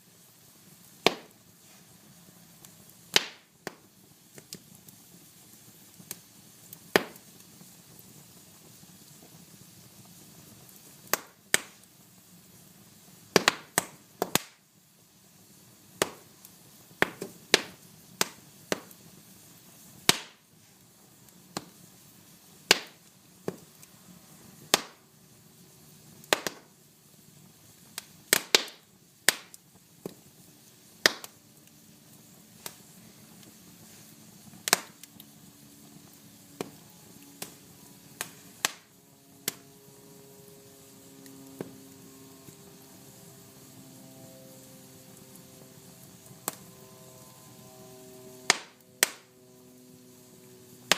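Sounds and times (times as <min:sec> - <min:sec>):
fire crackling and popping: 0:00.0 - 0:50.9
soft steady hiss: 0:00.0 - 0:50.9.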